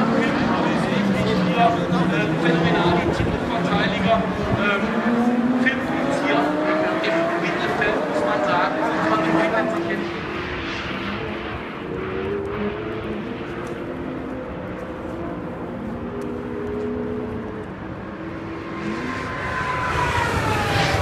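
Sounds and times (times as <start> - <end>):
race car engines: 0.0 - 21.0
race car passing by: 0.0 - 21.0.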